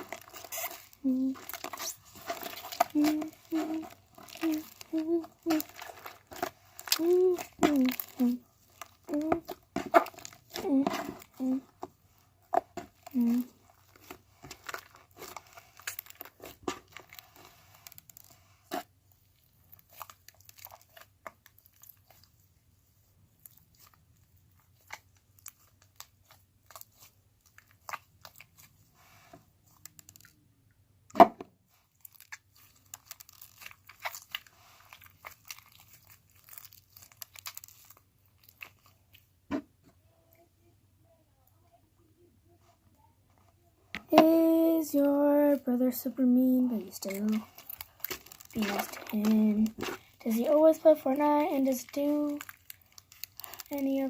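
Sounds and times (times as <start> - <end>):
putty crunching and crackling: 0.0 - 22.4, 23.2 - 28.9, 29.6 - 30.4, 31.8 - 39.4, 44.0 - 54.0.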